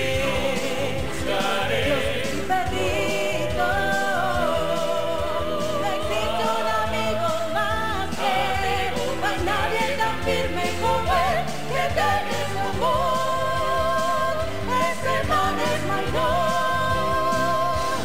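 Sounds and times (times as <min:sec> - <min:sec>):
band playing: 0:00.0 - 0:18.0
person singing gospel song: 0:00.0 - 0:18.0.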